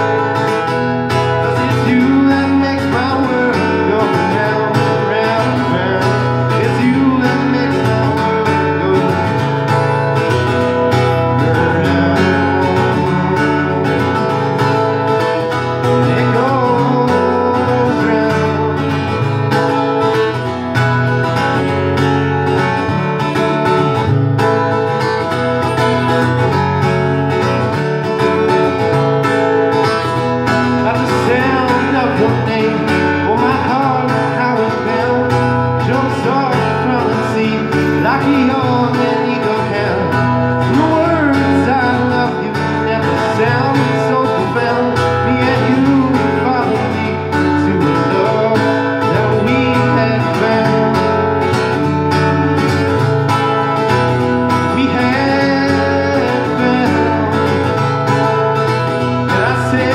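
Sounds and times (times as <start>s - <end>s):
man singing: 0.0s - 20.5s, 29.7s - 59.9s
strummed acoustic guitar: 0.0s - 59.9s.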